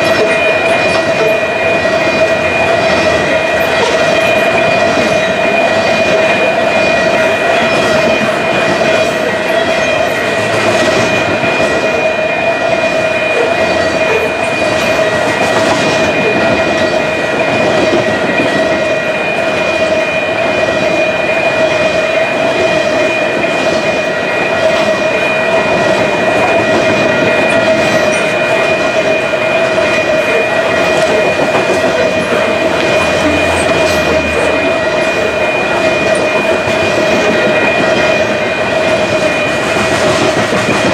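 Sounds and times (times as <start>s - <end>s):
constant ringing tone: 0.0s - 40.9s
train wheels clattering on rail: 0.0s - 40.9s.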